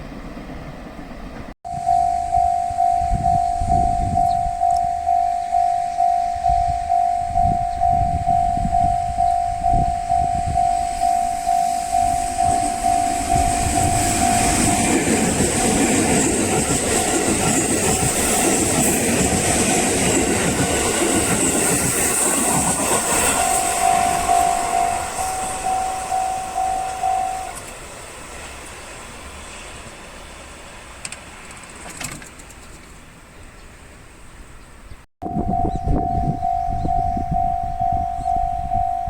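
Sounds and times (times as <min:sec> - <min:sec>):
train rumble and wheel noise: 0:00.0 - 0:39.0
level-crossing warning bell: 0:01.7 - 0:29.8, 0:35.2 - 0:39.0.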